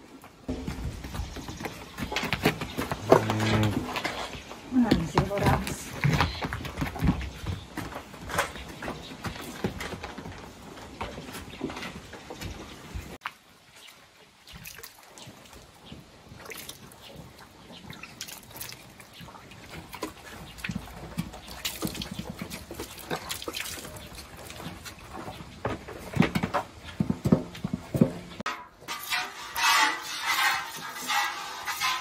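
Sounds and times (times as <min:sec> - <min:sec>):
cows slurping and chewing: 0:00.0 - 0:32.0.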